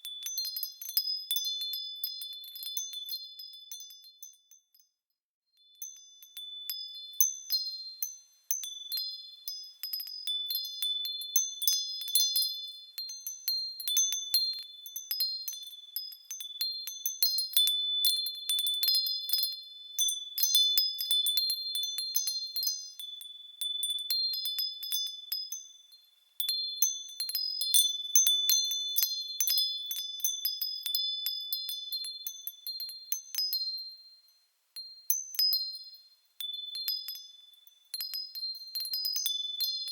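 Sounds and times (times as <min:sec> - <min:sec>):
wind chimes tinkling: 0:00.0 - 0:05.0, 0:05.6 - 0:39.9.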